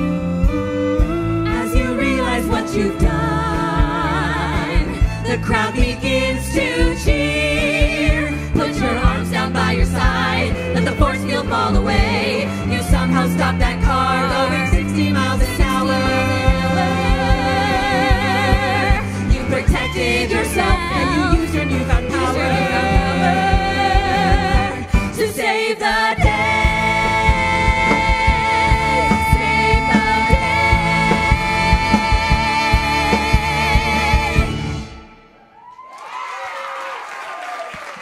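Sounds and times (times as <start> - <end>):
band playing: 0.0 - 35.4
vocal ensemble singing: 1.1 - 35.4
steady drum beat: 3.0 - 25.3, 26.2 - 34.7.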